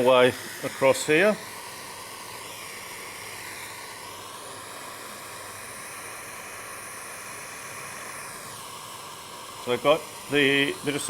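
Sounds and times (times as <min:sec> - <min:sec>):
soldering torch flame hissing: 0:00.0 - 0:11.0.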